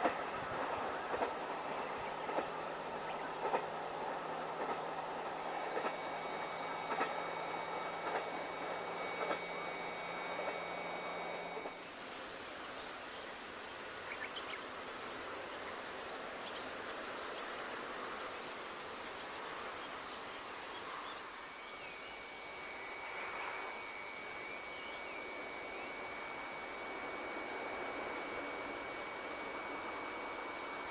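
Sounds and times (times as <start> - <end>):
insects chorus: 0.0 - 30.9.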